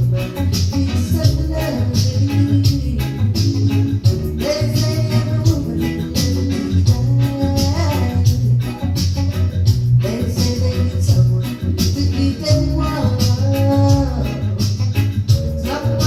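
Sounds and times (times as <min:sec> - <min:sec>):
bass line: 0:00.0 - 0:16.0
guitar: 0:00.0 - 0:16.0
reggae music: 0:00.0 - 0:16.0.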